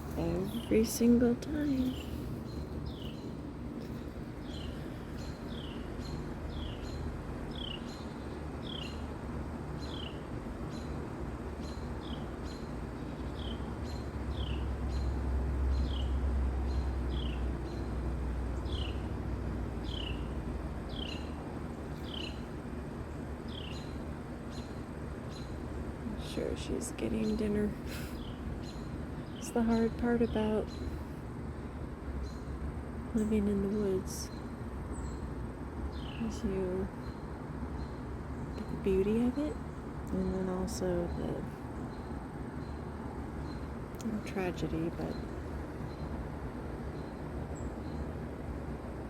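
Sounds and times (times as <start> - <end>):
low background rumble: 0.0 - 49.0.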